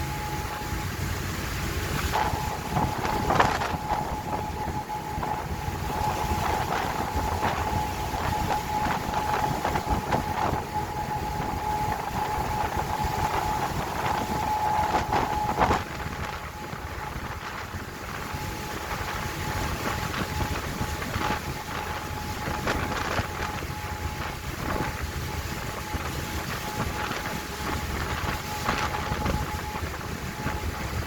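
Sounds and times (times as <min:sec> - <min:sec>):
boat running noise: 0:00.0 - 0:31.0
thin steady whine: 0:00.0 - 0:31.0
wind buffeting the microphone: 0:00.0 - 0:31.0.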